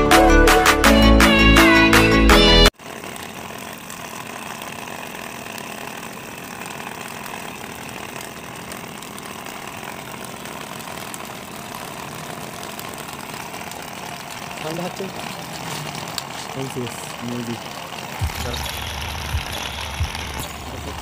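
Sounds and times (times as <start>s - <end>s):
machine running: 2.7s - 21.0s.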